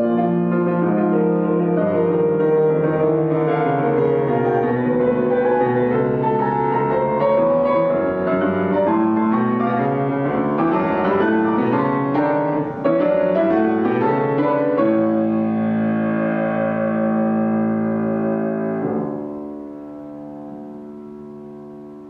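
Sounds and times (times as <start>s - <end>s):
grand piano playing: 0.0s - 22.0s.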